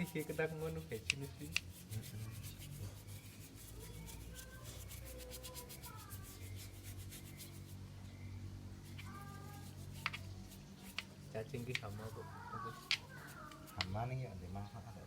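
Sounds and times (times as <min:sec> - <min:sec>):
scrubbing strokes: 0:00.0 - 0:07.9, 0:08.8 - 0:14.0.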